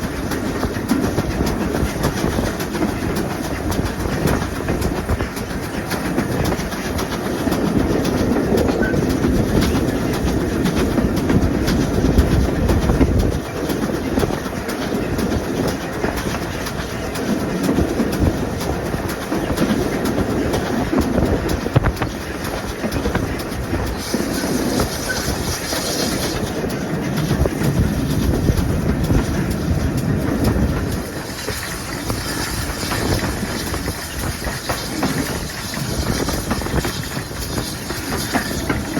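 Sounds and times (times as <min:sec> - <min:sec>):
train wheels clattering: 0:00.0 - 0:38.9.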